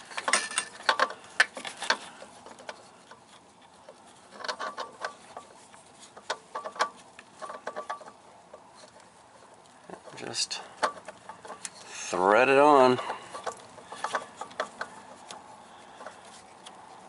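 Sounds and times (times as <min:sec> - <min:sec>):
metal pulley clicks and knocks: 0:00.0 - 0:03.2, 0:04.3 - 0:09.1, 0:09.9 - 0:11.9, 0:12.9 - 0:16.8.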